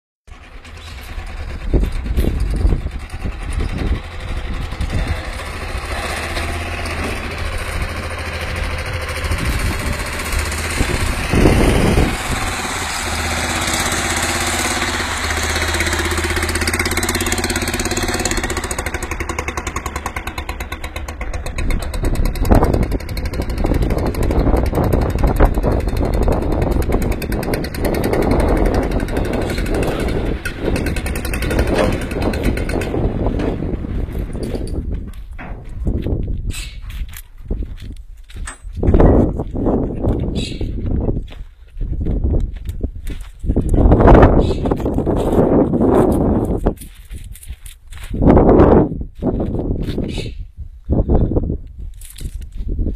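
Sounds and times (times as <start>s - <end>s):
tractor engine running: 0.3s - 52.9s.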